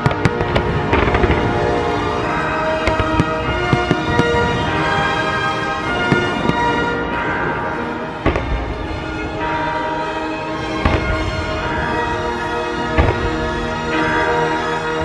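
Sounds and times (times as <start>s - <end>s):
fireworks bursting: 0.0s - 15.0s
music with long held notes: 0.0s - 15.0s.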